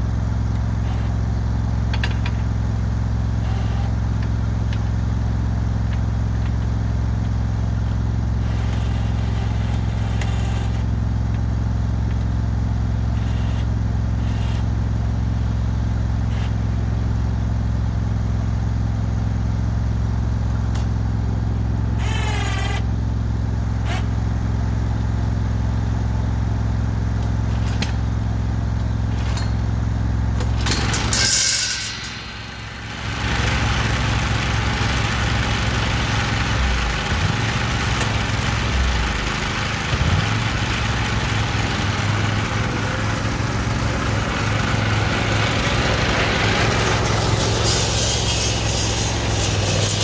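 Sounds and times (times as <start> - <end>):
riding lawn mower engine: 0.0 - 50.0.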